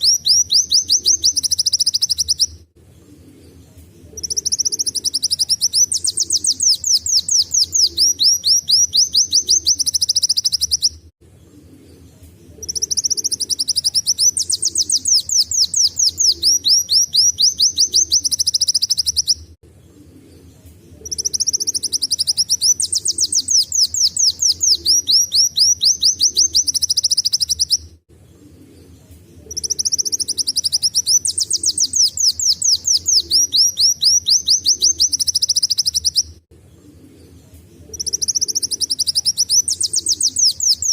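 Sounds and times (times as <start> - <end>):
bird singing trilled phrases: 0.0 - 2.7, 3.4 - 19.6, 20.2 - 28.0, 28.7 - 36.4, 37.2 - 40.9.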